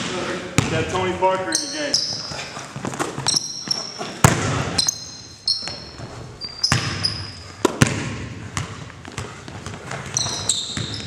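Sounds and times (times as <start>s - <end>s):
sneakers squeaking on court: 0.5s - 11.0s
basketball bouncing on wooden floor: 0.6s - 1.0s, 2.0s - 11.0s.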